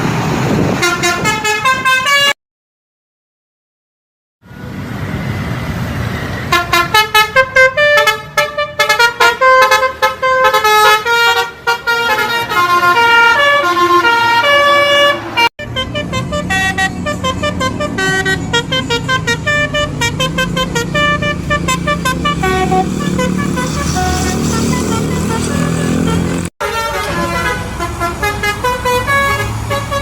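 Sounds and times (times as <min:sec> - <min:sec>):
musical bus horn melody: 0:00.8 - 0:02.4, 0:06.5 - 0:30.0.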